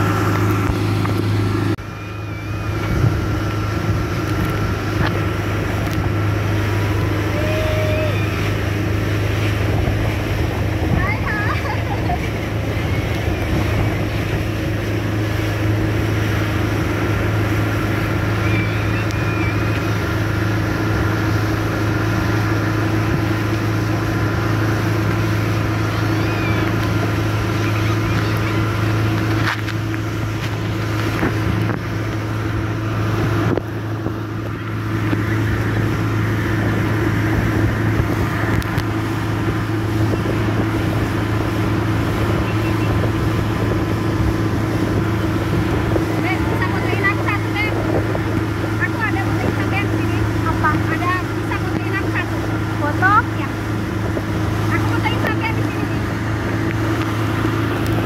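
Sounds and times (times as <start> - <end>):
boat wake rushing: 0.0 - 58.0
outboard motor humming: 0.0 - 58.0
wind on microphone: 0.0 - 58.0.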